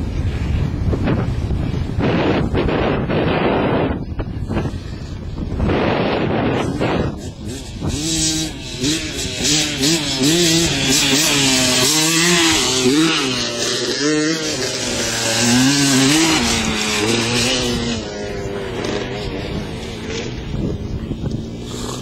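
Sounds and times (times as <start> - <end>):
dirt bike engine revving: 2.0 - 22.0.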